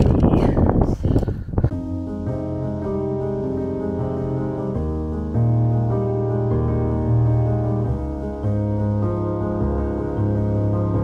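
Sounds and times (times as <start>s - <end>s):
keyboard chords: 1.7s - 11.0s.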